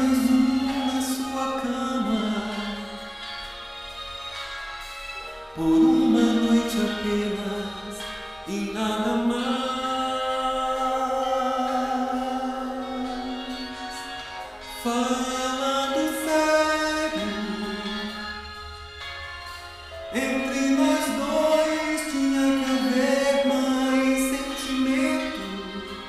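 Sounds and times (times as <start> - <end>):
slow ballad with long held notes: 0.0 - 26.0.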